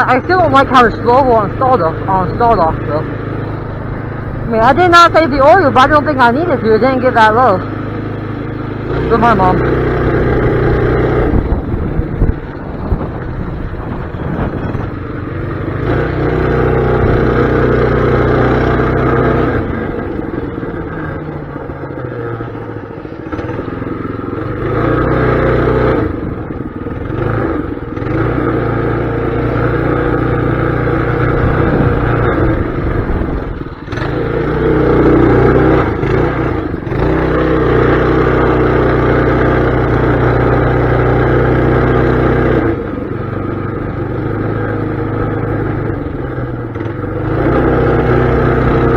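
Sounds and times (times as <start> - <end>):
small bike engine revving: 0.0 - 48.9.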